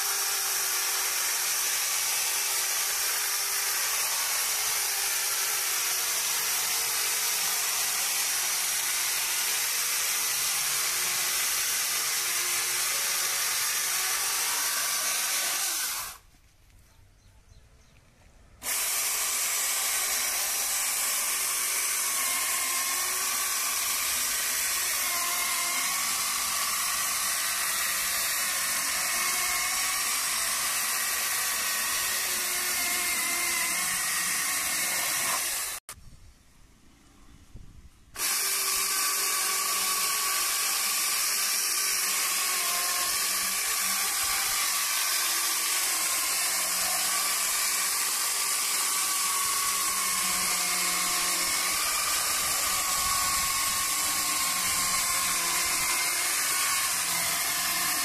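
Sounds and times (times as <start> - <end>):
electric chainsaw cutting log: 0.0 - 16.3, 18.6 - 35.9, 38.2 - 58.0.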